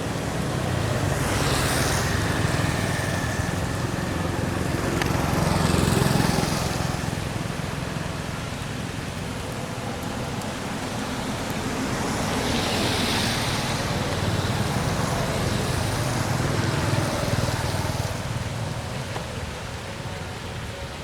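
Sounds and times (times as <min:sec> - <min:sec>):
road vehicle passing: 0:00.0 - 0:20.7.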